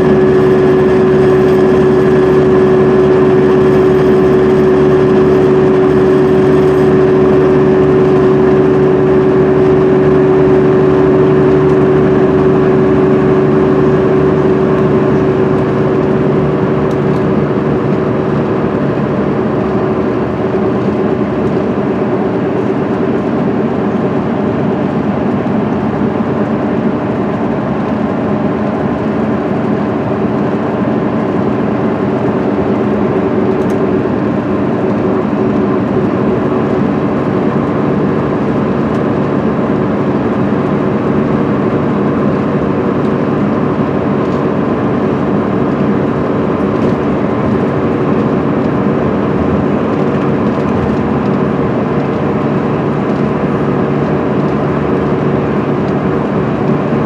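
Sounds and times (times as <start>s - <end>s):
diesel coach engine drone: 0.0s - 57.0s
tyre and road noise: 0.0s - 57.0s.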